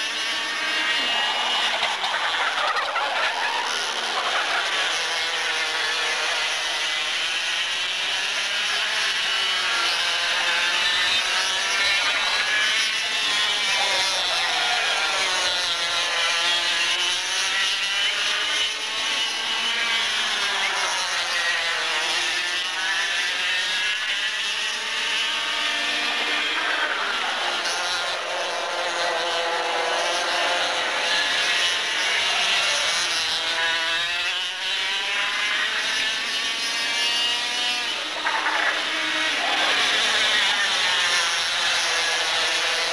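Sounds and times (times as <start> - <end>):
kart engines racing at high revs: 0.0 - 42.9.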